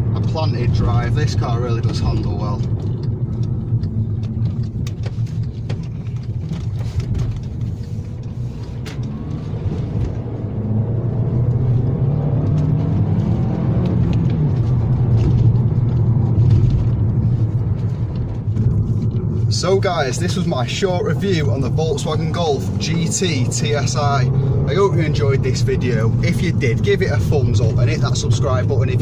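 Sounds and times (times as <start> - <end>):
car engine accelerating: 0.0 - 29.0
road noise: 0.0 - 29.0.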